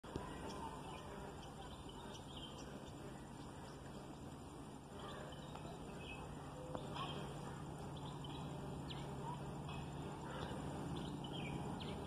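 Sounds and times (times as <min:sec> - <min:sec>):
low steady hum: 0:00.0 - 0:12.0
faint bird chirps and whistles: 0:00.2 - 0:04.4, 0:05.0 - 0:09.4, 0:10.2 - 0:12.0.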